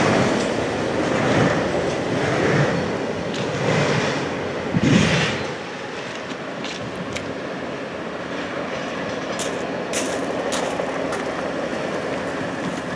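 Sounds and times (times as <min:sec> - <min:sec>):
freight train rumbling: 0:00.0 - 0:12.9.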